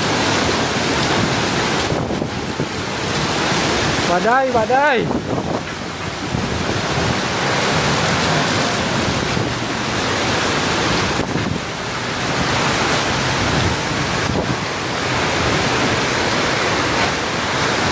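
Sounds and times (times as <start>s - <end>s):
heavy rain: 0.0s - 17.9s
strong storm wind: 0.0s - 17.9s
wind buffeting microphone: 0.1s - 4.1s, 4.9s - 17.9s.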